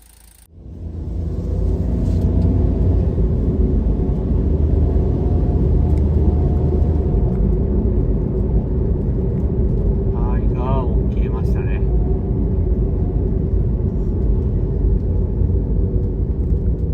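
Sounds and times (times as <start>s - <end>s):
vehicle engine low rumble: 0.4s - 16.9s.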